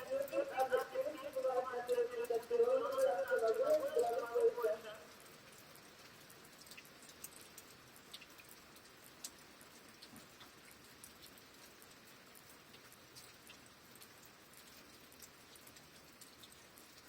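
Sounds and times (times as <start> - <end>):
faint rain hiss: 0.0 - 17.0
raindrops ticking: 0.0 - 17.0.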